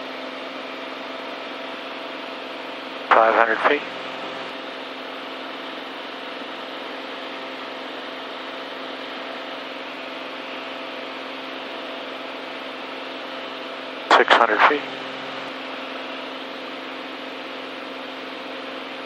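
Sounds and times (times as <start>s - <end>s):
aircraft engine and propeller drone: 0.0s - 19.0s.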